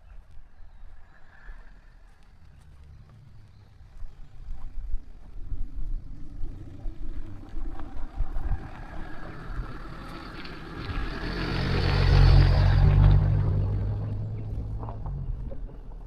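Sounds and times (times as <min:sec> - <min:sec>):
car approaching: 0:00.1 - 0:16.0.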